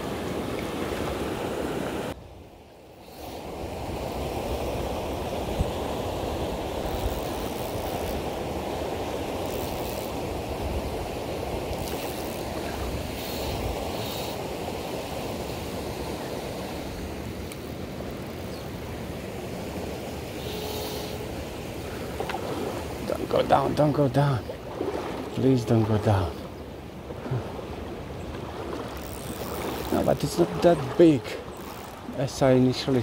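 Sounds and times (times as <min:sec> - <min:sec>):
river water rushing: 0:00.0 - 0:02.2, 0:03.0 - 0:33.0.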